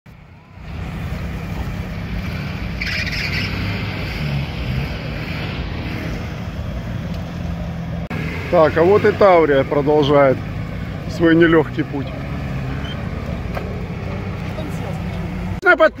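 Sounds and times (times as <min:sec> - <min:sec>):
off-road vehicle engine at low revs: 0:00.1 - 0:16.0.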